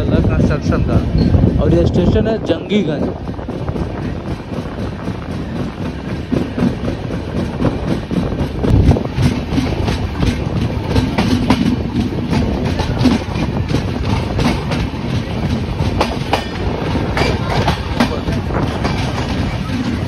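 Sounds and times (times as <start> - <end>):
train rumbling: 0.0 - 20.0
wheels clacking over rail joints: 3.0 - 20.0.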